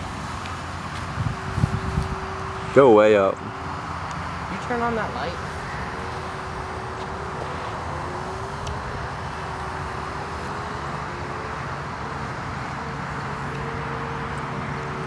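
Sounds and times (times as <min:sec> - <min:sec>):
model plane propeller droning: 0:00.0 - 0:15.0.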